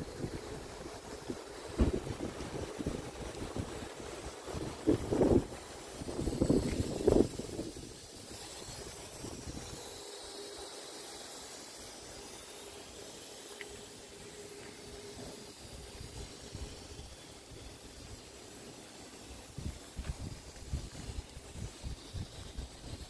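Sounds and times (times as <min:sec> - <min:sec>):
faint outdoor hiss: 0:00.0 - 0:23.0.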